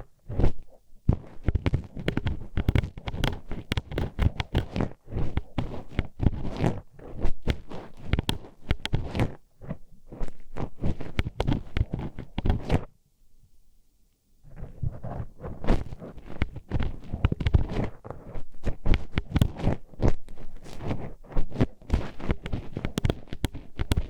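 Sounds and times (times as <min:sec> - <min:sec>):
hairpin scraping in microphone: 0:00.3 - 0:12.9, 0:14.5 - 0:24.0.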